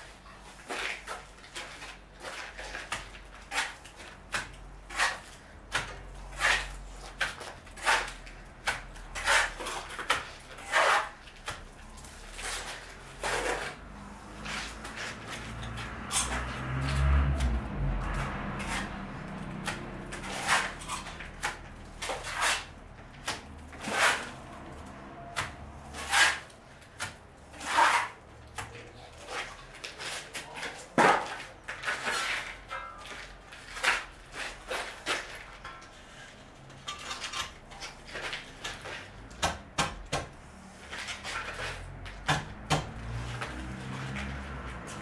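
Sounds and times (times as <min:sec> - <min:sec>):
scraping on brick: 0:00.5 - 0:45.0.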